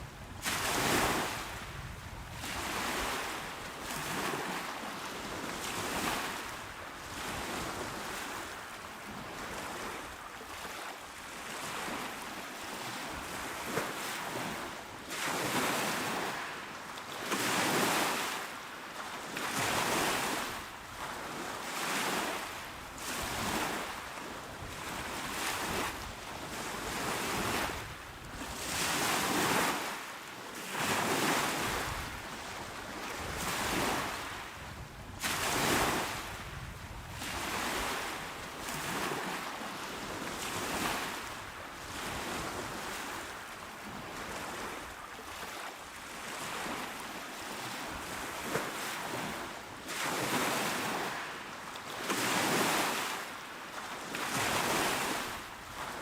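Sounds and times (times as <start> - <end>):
waves washing onto shore: 0.0 - 56.0.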